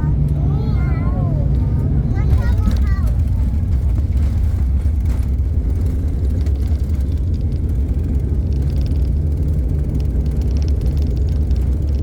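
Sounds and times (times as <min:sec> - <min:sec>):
airliner engine cabin rumble: 0:00.0 - 0:12.0.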